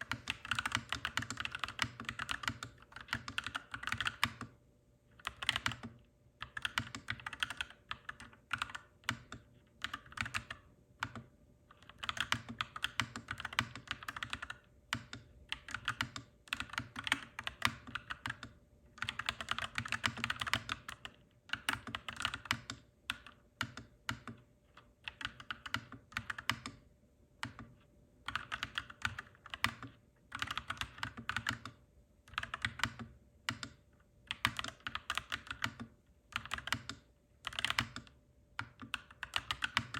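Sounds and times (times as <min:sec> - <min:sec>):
mechanical keyboard typing: 0:00.0 - 0:04.5, 0:05.2 - 0:26.8, 0:27.4 - 0:39.9.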